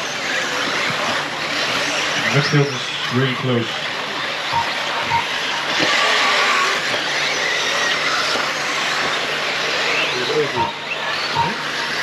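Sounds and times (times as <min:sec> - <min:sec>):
electric rc cars whining: 0:00.0 - 0:12.0.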